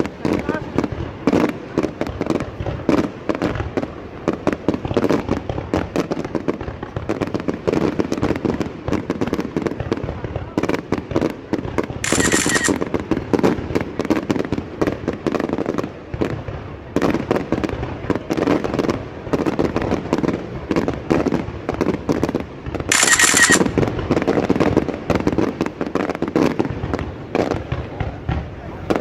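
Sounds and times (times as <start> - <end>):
firecrackers popping and banging: 0.0 - 29.0.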